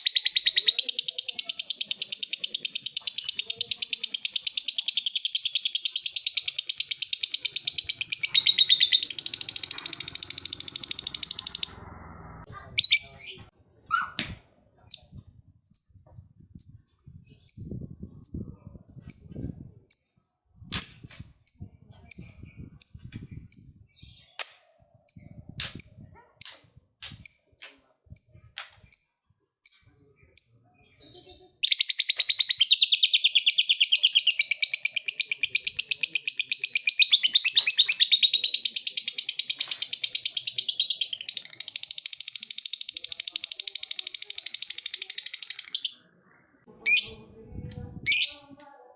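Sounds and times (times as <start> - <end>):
lovebird chirping and trilling: 0.0 - 14.1, 14.9 - 26.6, 28.2 - 46.1, 46.8 - 47.3, 48.0 - 48.5.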